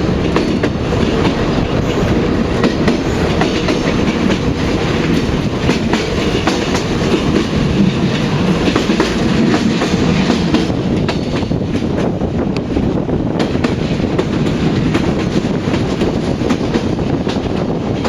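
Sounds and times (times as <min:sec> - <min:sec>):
train rumbling: 0:00.0 - 0:18.0
wheels clicking over rail joints: 0:00.0 - 0:18.0.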